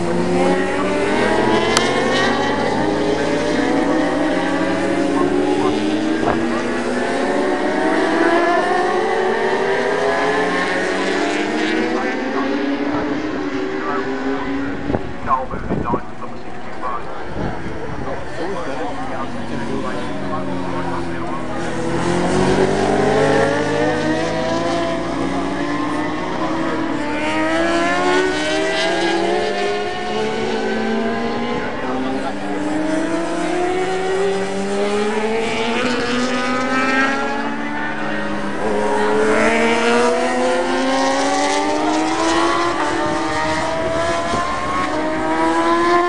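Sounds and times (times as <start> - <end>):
racing motorcycle engines: 0.0 - 46.0.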